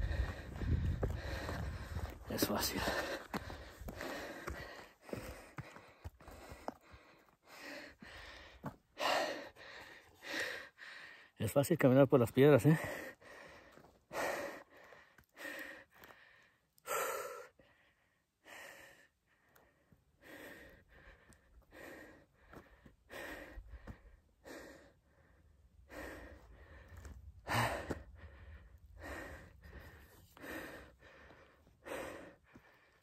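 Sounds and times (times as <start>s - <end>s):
man breathing hard: 0.0s - 11.4s, 12.6s - 33.0s.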